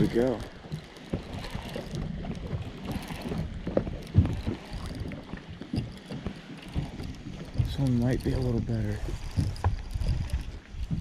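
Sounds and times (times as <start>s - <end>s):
knocks in a small boat: 0.0s - 11.0s
wind buffeting microphone: 0.0s - 11.0s.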